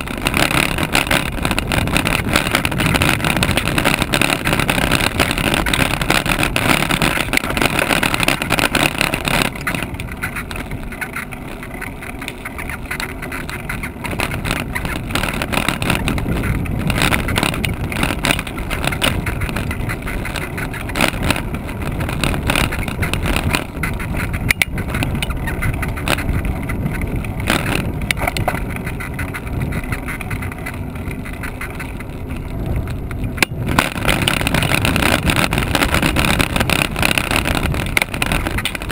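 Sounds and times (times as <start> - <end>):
small rattles: 0.0 - 38.9
wind rumbling on camera: 0.0 - 38.9.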